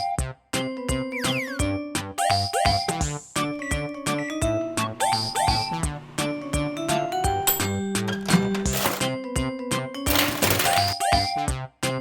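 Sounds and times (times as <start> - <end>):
upbeat children's music: 0.0 - 12.0.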